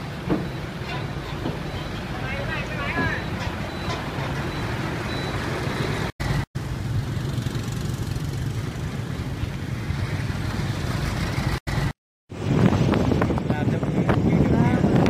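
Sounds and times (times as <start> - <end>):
road noise: 0.0 - 15.0
truck diesel engines rumbling: 0.0 - 15.0.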